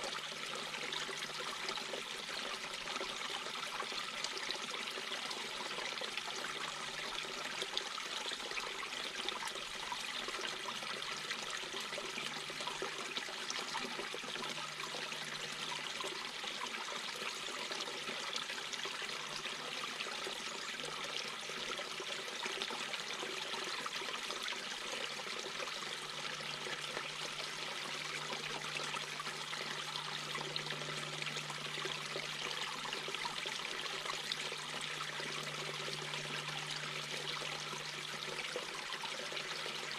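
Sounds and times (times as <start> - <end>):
brook water running over stones: 0.0 - 39.9.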